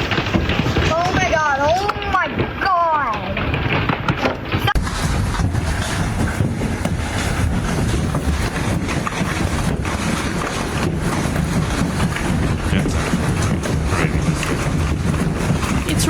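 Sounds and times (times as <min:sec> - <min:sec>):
hail pelting down: 0:00.0 - 0:16.0
wind buffeting microphone: 0:00.0 - 0:16.0.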